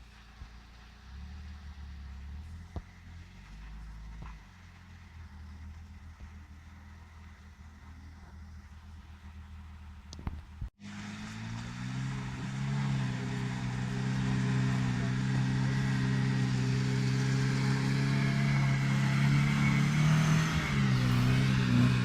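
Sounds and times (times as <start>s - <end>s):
car engine under load: 0.0s - 22.0s
road noise: 0.0s - 22.0s.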